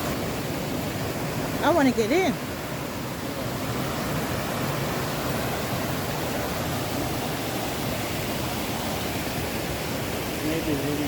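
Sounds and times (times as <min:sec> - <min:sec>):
water rushing down creek: 0:00.0 - 0:11.0.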